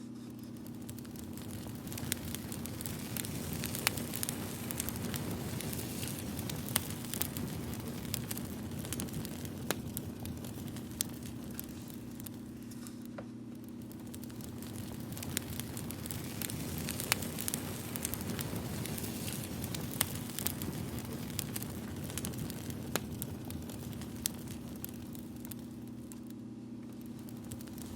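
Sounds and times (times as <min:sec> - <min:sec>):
steady low hum: 0:00.0 - 0:27.9
campfire crackling and popping: 0:00.4 - 0:27.9.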